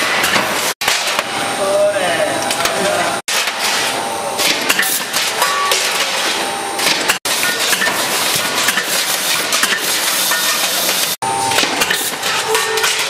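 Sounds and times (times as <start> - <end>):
can-making press running: 0.0 - 13.0.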